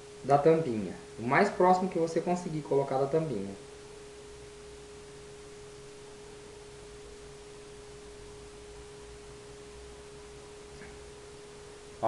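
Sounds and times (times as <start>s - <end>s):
faint steady hum: 0.0s - 12.0s
low hiss: 0.0s - 12.0s.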